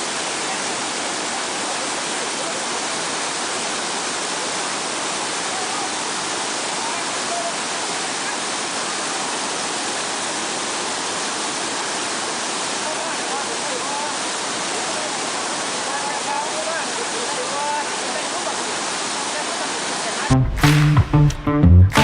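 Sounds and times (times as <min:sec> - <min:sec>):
floodwater rushing over waterfall: 0:00.0 - 0:20.8.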